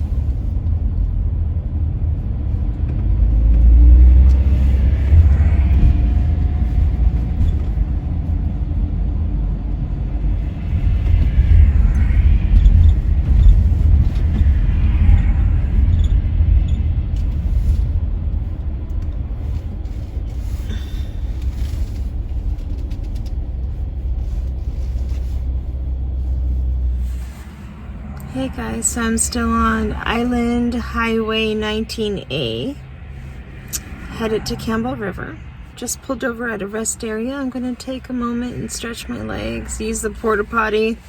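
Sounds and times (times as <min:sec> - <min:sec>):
car driving on highway: 0:00.0 - 0:41.0.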